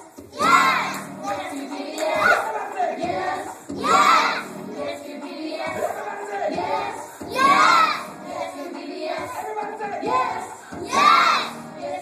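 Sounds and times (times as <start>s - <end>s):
children singing: 0.0s - 12.0s
music: 0.0s - 12.0s.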